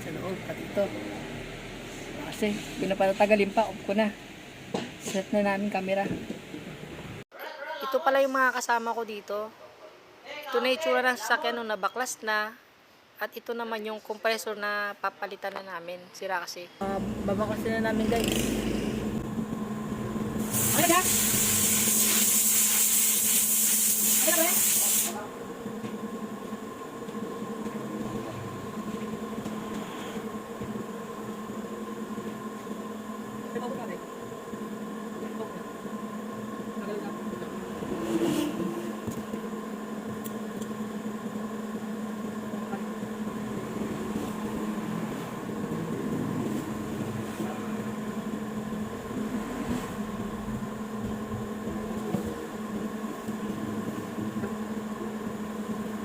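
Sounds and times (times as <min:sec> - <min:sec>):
steady mechanical hum: 0:00.0 - 0:07.3, 0:10.4 - 0:56.0.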